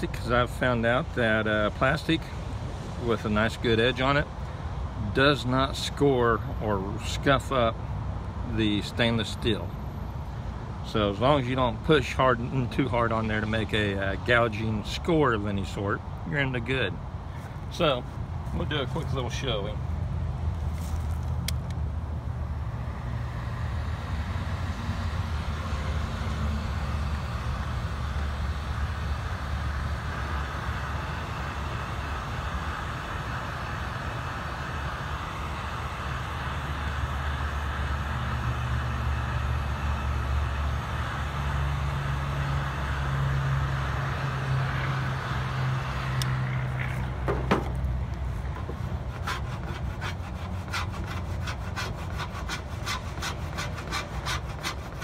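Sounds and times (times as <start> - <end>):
heat gun fan blowing: 0.0 - 55.0.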